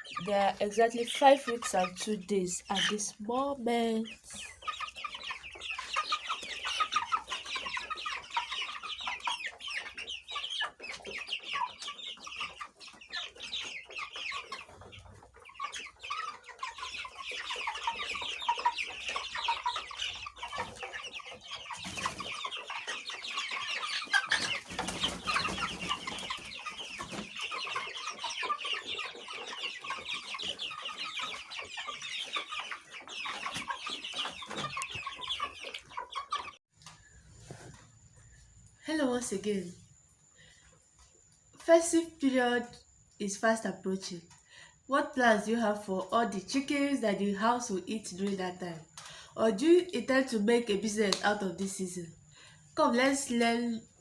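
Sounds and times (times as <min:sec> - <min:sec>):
chicks cheeping: 0:00.0 - 0:54.0.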